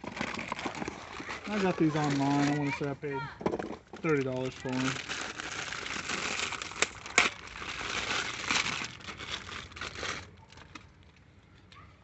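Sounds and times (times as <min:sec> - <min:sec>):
packaging crinkling: 0:00.0 - 0:03.0, 0:03.9 - 0:11.1.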